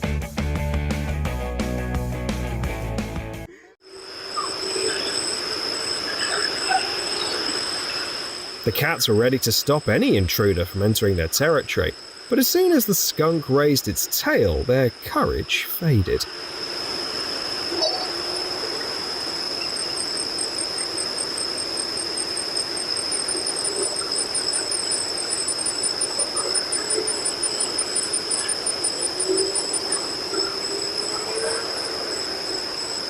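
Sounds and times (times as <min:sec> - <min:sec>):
high-pitched insect drone: 0:03.8 - 0:33.0
rapid insect chirping: 0:03.8 - 0:33.0.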